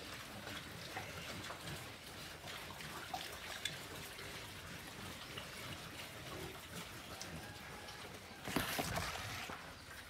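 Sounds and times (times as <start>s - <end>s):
pigs chewing wetly: 0.0s - 10.0s.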